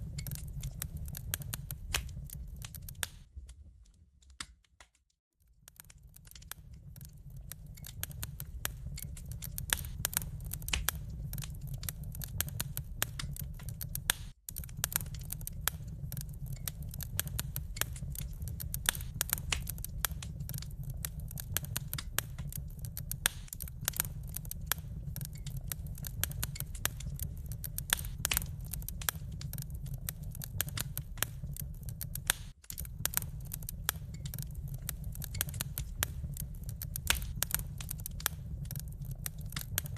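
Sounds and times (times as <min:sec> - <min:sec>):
fire low rumble: 0:00.0 - 0:04.5, 0:05.4 - 0:39.9
wood fire crackling and popping: 0:00.0 - 0:39.9.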